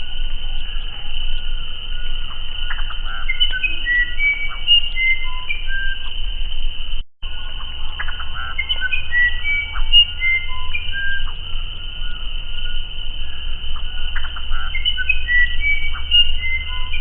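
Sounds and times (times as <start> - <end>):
high background hiss: 0.0 - 17.0
bird whistling notes: 0.6 - 6.4, 7.3 - 17.0.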